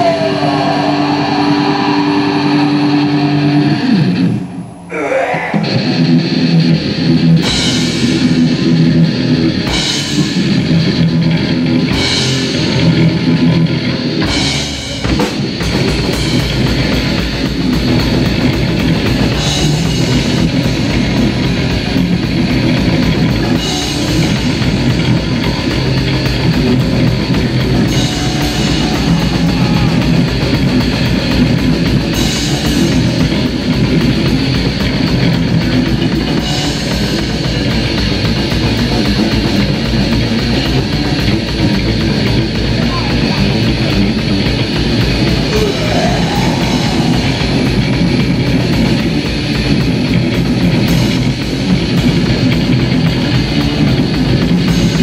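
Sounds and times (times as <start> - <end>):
rock music with drums and guitar: 0.0 - 4.6, 5.5 - 55.0.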